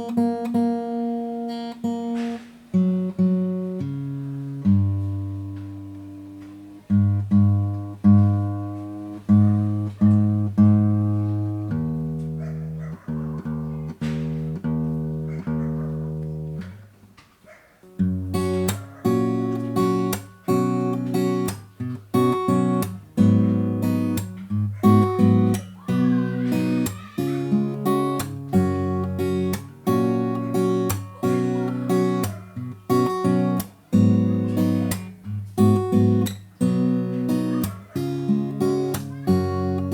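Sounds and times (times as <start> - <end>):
acoustic guitar strumming: 0.0 - 17.1, 17.8 - 39.9.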